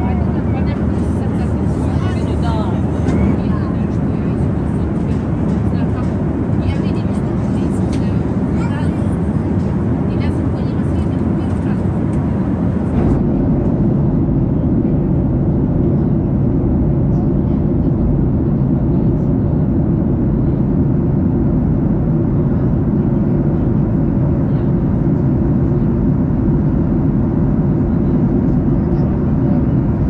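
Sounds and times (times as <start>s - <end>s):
jet engines roaring in cabin: 0.0s - 30.0s.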